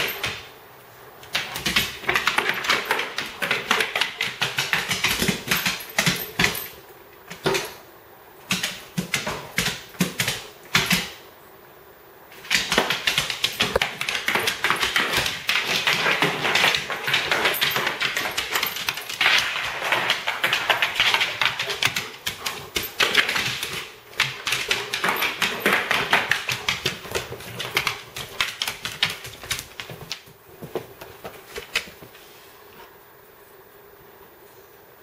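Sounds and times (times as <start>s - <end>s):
dog claws clicking on wooden floor: 0.0s - 0.5s, 1.2s - 7.8s, 8.4s - 11.2s, 12.4s - 32.1s.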